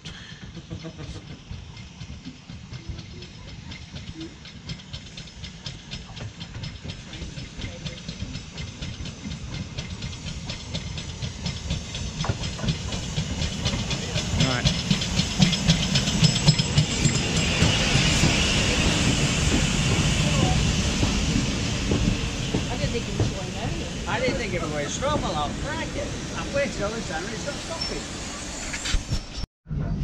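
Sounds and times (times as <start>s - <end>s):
steam locomotive approaching: 0.0s - 29.5s.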